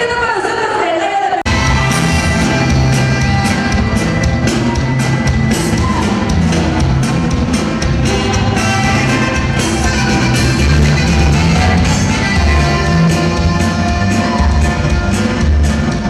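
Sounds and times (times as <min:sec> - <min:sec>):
band playing music: 0:01.5 - 0:16.0
bass line: 0:01.5 - 0:16.0
steady drum beat: 0:01.5 - 0:16.0.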